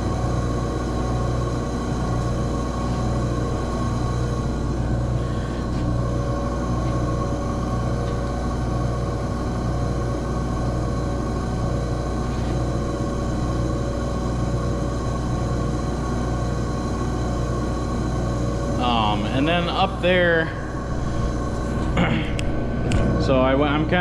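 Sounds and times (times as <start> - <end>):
furnace burner rumble: 0.0 - 24.0.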